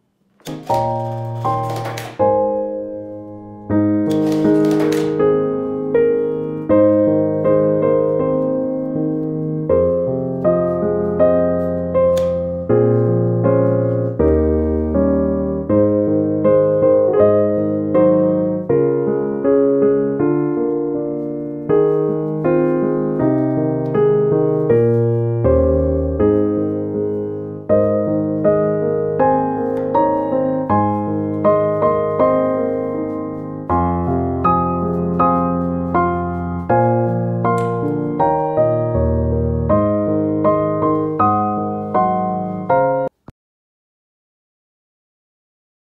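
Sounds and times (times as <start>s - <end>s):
slow piano chords: 0.0s - 43.2s.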